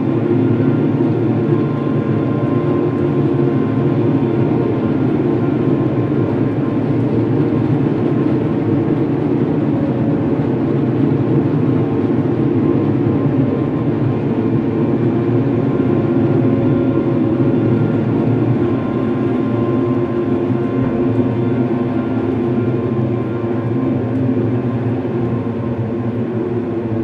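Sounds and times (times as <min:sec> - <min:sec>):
dark ambient drone music: 0:00.0 - 0:27.0.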